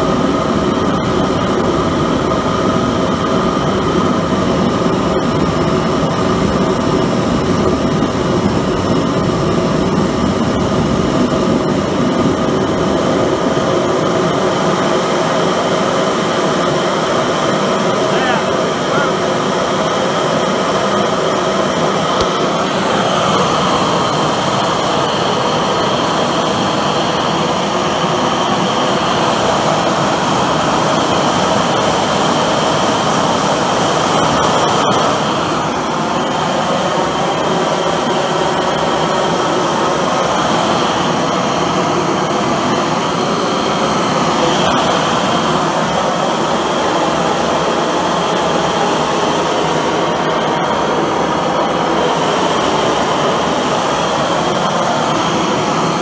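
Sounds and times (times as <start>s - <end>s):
gas forge burner roaring: 0.0s - 56.0s.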